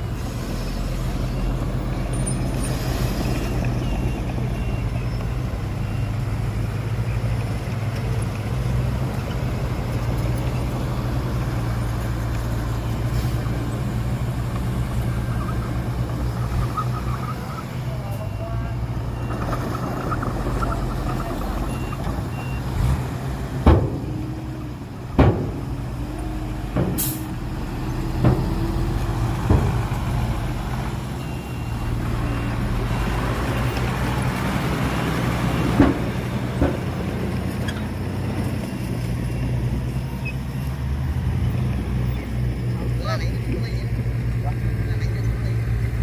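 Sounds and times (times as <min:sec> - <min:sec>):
diesel machinery running: 0:00.0 - 0:46.0.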